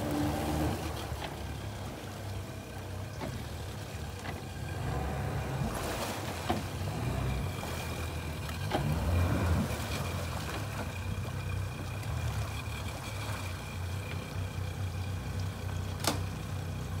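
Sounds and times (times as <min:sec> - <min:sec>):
outboard motors idling: 0:00.0 - 0:17.0.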